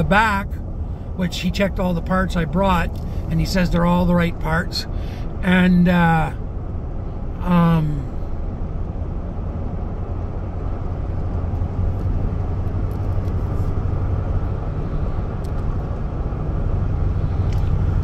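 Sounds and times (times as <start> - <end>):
engine and tyre rumble inside cab: 0.0 - 18.0.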